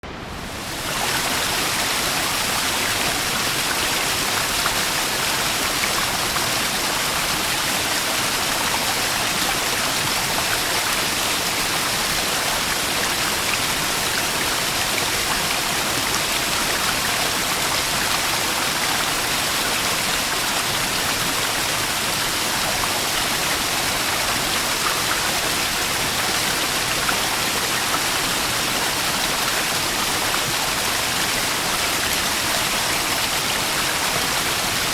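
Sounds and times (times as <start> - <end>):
small waterfall splashing: 0.4 - 34.9.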